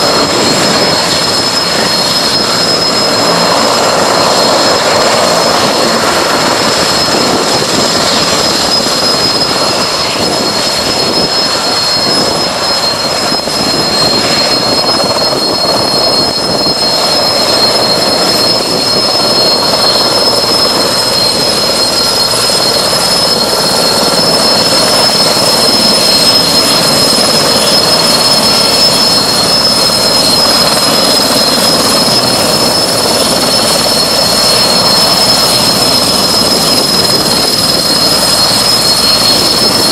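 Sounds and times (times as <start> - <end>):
helicopter rotor rushing: 0.0 - 39.9
helicopter turbine whine: 0.0 - 39.9.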